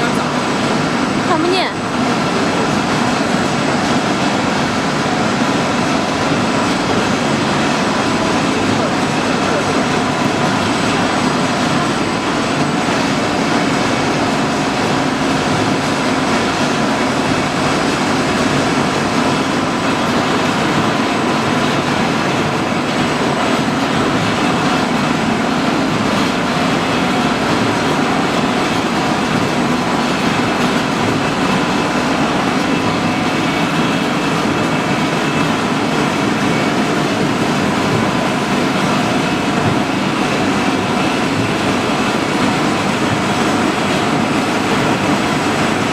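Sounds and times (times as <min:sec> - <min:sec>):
industrial machinery din: 0:00.0 - 0:45.9.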